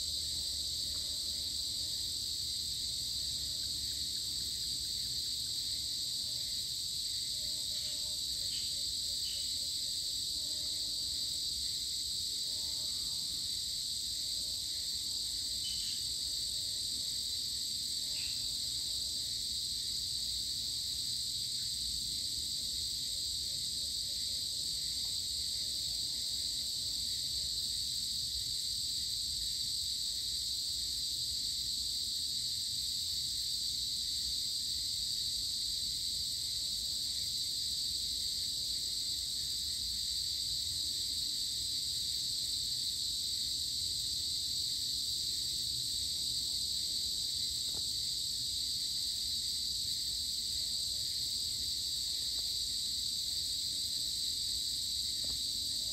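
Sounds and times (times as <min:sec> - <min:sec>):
shrill insect chorus: 0:00.0 - 0:55.9.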